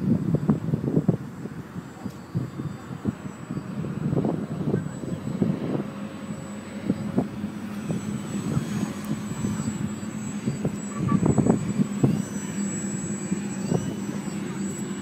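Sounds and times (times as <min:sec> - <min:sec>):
model plane electric motor buzzing: 0:00.0 - 0:15.0.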